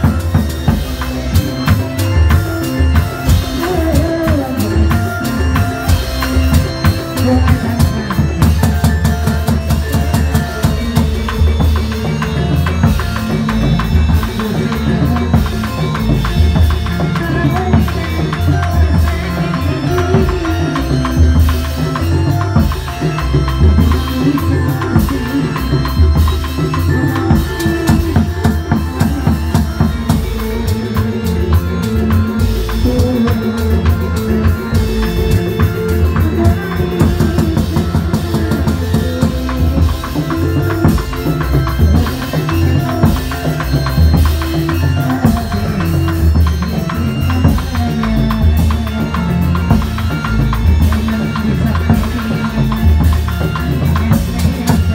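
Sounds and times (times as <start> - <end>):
fast drumming: 0.0 - 54.9
pitched melodic tones: 0.0 - 54.9.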